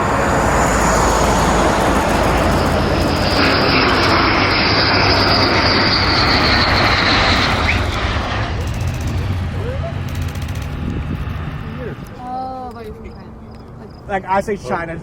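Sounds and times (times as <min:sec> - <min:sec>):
airplane engine passing: 0:00.0 - 0:15.0.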